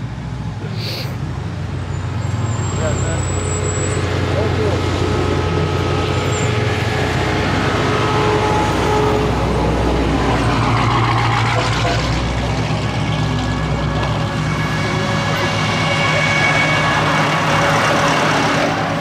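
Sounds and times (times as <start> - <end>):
race car engines passing slowly: 0.0 - 19.0.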